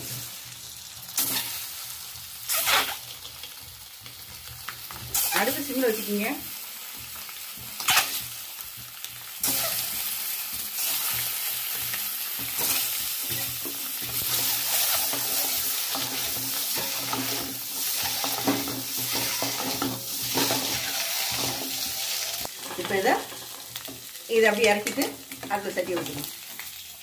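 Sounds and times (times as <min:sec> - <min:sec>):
eggs sizzling in oil: 0:00.0 - 0:27.0.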